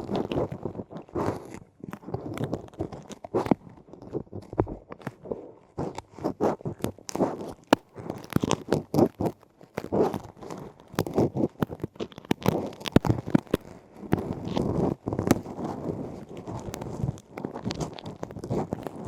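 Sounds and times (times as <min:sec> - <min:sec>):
scratching and rustling in microphone: 0:00.0 - 0:19.0
sharp clicks and scrapes: 0:00.0 - 0:19.0.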